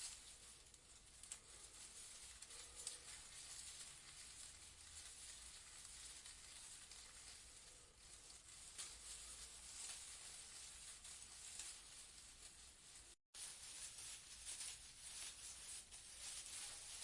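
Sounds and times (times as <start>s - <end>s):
leaves rustling in breeze: 0.0s - 17.0s
small crackles: 0.0s - 17.0s.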